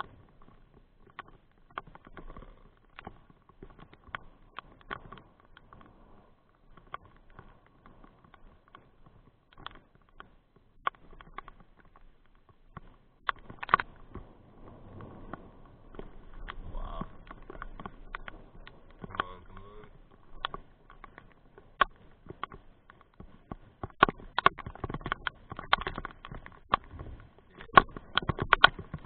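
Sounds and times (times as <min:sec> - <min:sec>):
raindrops tapping on surface: 0:00.0 - 0:29.0.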